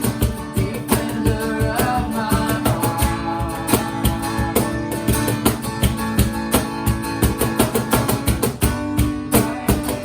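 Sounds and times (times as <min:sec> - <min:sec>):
bass: 0:00.0 - 0:10.0
guitar strumming: 0:00.0 - 0:10.0
steady drum beat: 0:00.0 - 0:10.0.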